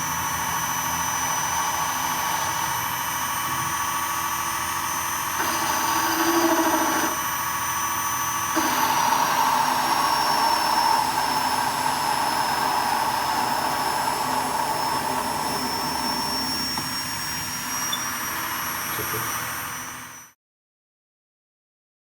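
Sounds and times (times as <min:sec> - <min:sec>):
machine tool motor whining: 0:00.0 - 0:20.3.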